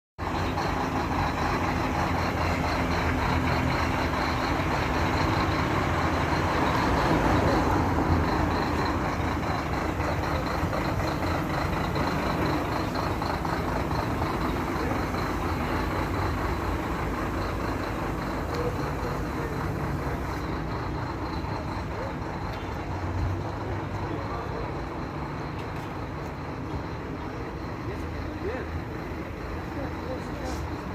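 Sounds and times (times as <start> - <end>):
bus engine running: 0.2 - 30.9.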